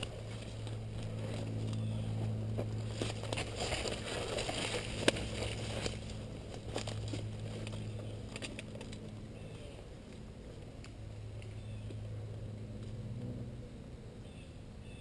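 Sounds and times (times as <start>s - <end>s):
rustling through dry brush: 0.0s - 12.0s
steady low hum: 0.0s - 15.0s.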